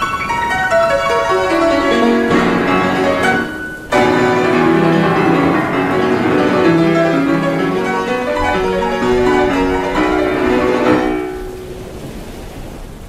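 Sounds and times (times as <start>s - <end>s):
classical piano music: 0.0s - 12.1s.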